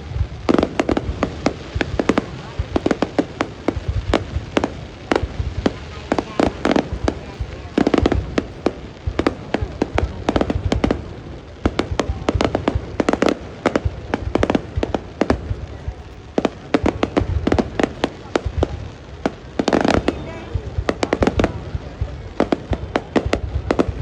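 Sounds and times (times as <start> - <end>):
fireworks bangs and pops: 0.0 - 24.0
fireworks crackling: 0.0 - 24.0.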